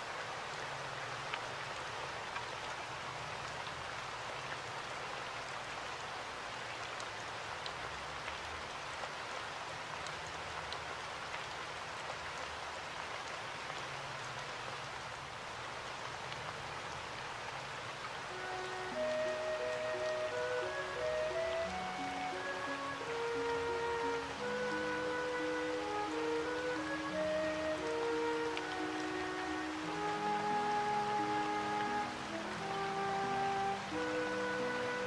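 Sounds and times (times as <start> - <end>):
rain-like hiss: 0.0 - 35.0.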